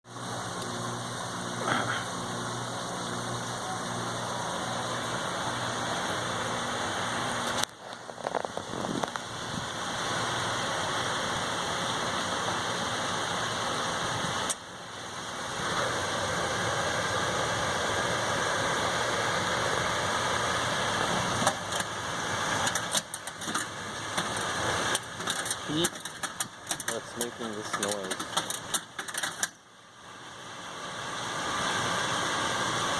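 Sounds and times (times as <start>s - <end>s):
pool heater grinding: 0.1s - 29.6s.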